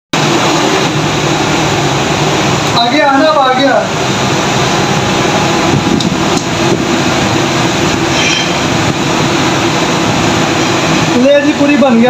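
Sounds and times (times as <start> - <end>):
kitchen background roar: 0.1 - 12.0.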